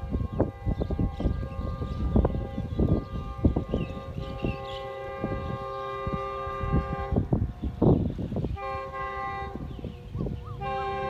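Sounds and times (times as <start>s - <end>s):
distant train air horn blasts: 0.0s - 11.0s.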